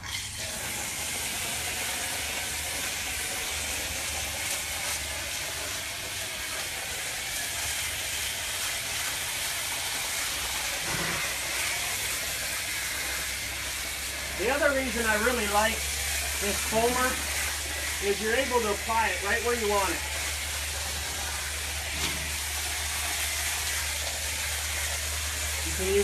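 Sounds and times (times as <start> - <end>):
foam sprayer hissing: 0.0 - 26.0.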